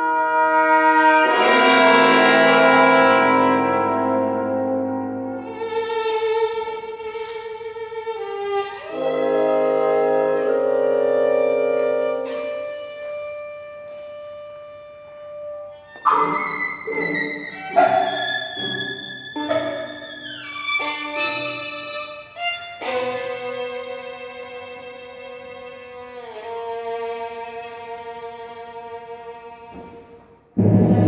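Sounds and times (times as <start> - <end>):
bowed strings ensemble music: 0.0 - 31.0.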